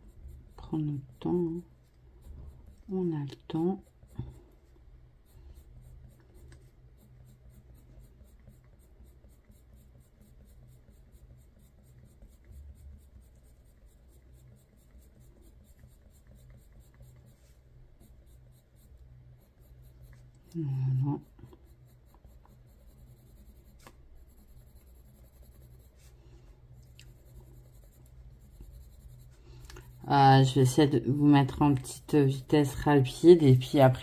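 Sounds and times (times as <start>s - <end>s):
low steady hum: 0.0s - 34.0s
pencil shading on paper: 0.0s - 34.0s.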